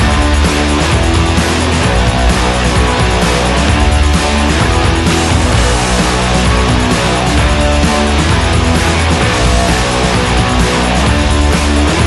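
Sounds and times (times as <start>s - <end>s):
hard rock music with electric guitar: 0.0s - 12.0s.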